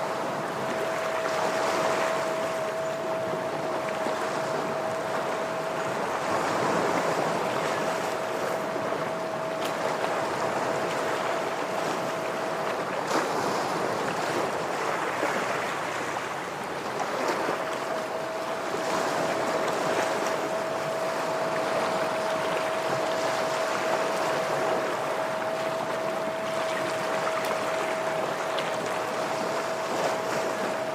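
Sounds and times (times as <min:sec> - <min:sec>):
thin steady hum: 0:00.0 - 0:30.9.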